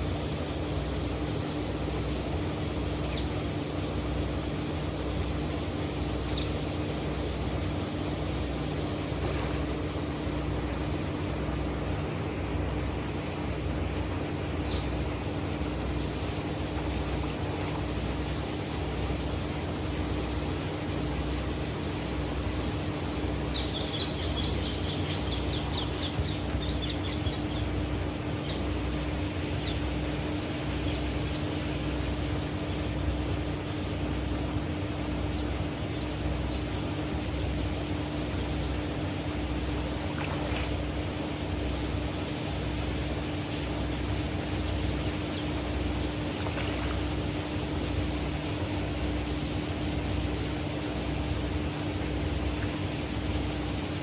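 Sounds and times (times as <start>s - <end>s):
motor droning: 0.0s - 54.0s.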